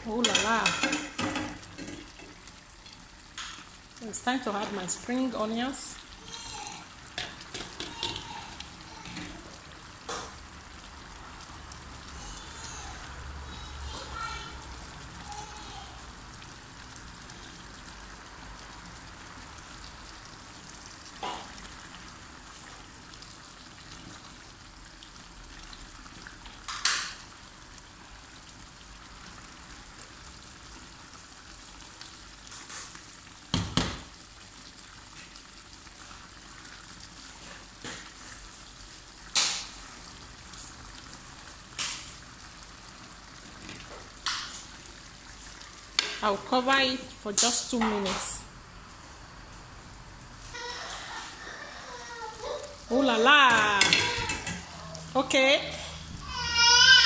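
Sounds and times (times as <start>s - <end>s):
stew simmering and sizzling: 0.0s - 57.0s.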